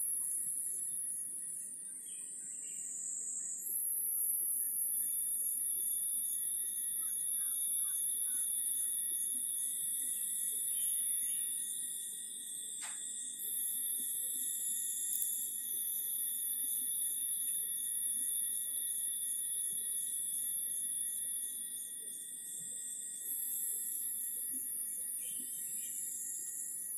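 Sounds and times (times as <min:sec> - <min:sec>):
insects droning high-pitched whine: 0:00.0 - 0:26.9.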